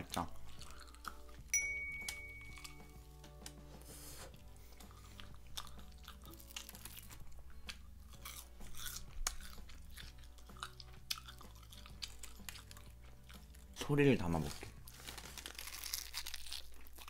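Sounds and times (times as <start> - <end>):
chewing crispy fried chicken: 0.0 - 1.5, 2.6 - 17.0
soft background music: 0.0 - 17.0.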